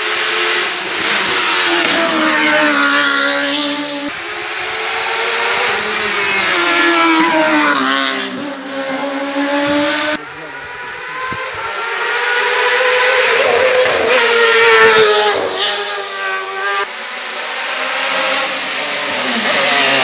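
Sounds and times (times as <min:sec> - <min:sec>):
race car engine at high revs: 0:00.0 - 0:20.0.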